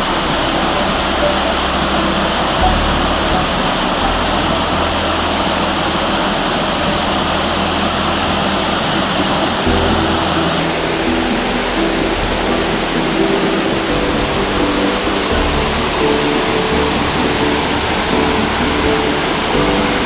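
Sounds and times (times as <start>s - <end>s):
low held notes: 0.0s - 20.0s
waterfall rushing: 0.0s - 20.0s.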